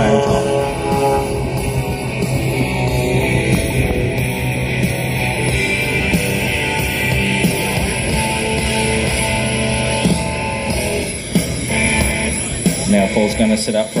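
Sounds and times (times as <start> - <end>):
rock music with electric guitar: 0.0 - 14.0.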